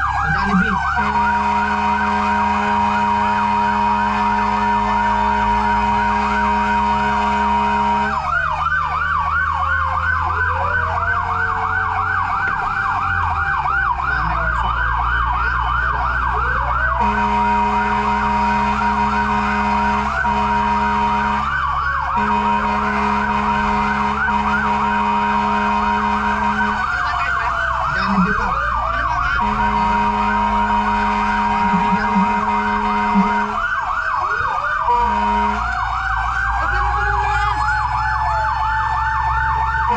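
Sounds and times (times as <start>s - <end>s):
fire truck siren yelp and wail: 0.0s - 39.9s
steady siren tone: 0.0s - 39.9s
vehicle engine running: 0.0s - 39.9s.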